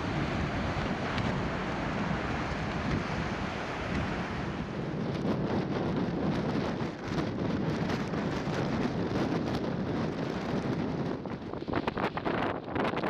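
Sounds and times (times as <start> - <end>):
heavy surf: 0.0 - 13.0
strong wind buffeting microphone: 0.0 - 13.0.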